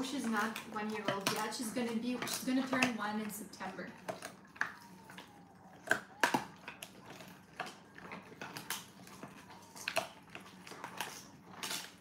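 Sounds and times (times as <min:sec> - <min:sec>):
dogs gnawing on hard chews: 0:00.0 - 0:12.0.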